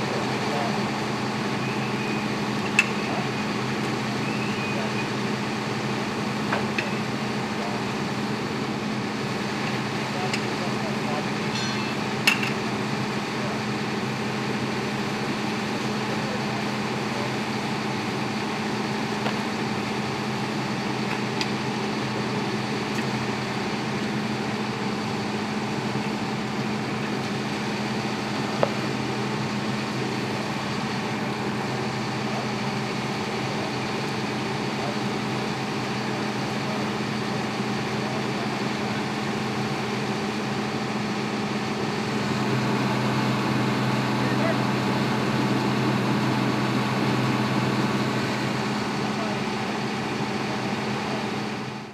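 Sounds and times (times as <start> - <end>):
truck engine running steadily: 0.0 - 51.9.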